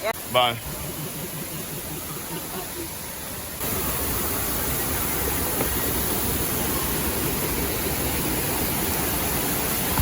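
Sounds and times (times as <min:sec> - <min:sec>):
waterfall gushing: 0:00.0 - 0:10.0.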